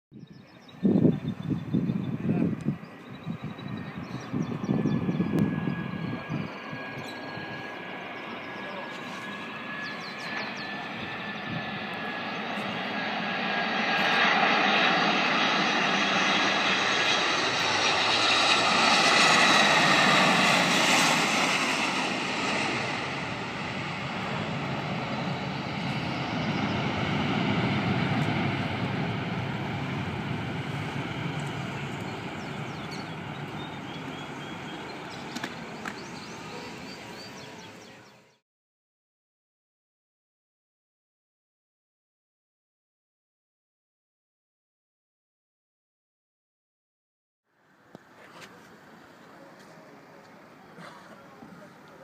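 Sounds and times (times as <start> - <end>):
high jet engine whine: 0.2 - 38.4, 47.5 - 52.0
airliner flying past: 0.4 - 38.4, 47.9 - 52.0.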